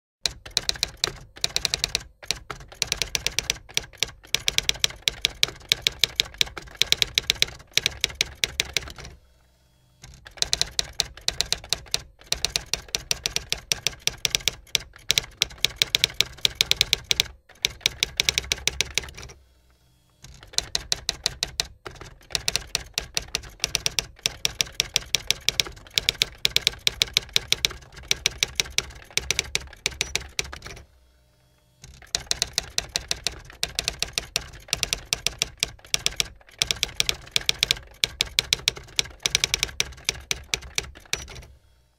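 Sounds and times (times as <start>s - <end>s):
typewriter keys clacking: 0.3s - 9.2s, 10.1s - 19.4s, 20.3s - 30.8s, 31.9s - 41.5s.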